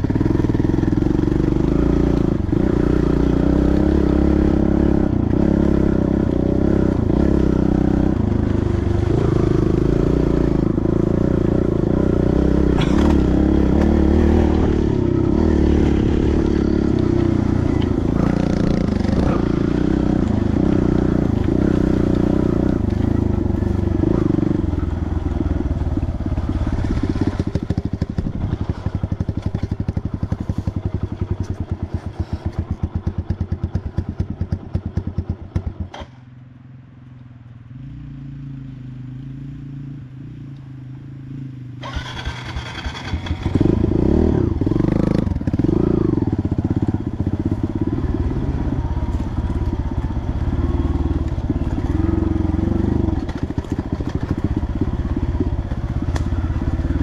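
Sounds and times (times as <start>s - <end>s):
dirt bike engine running: 0.0s - 36.6s, 41.8s - 57.0s.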